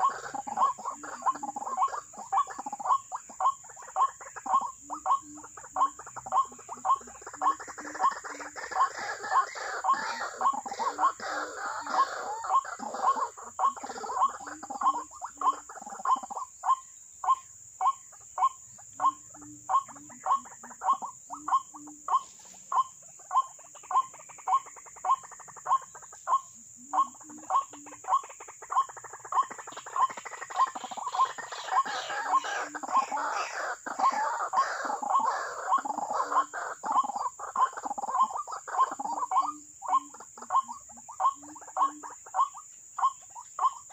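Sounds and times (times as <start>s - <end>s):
waterhens calling: 0.0s - 43.9s.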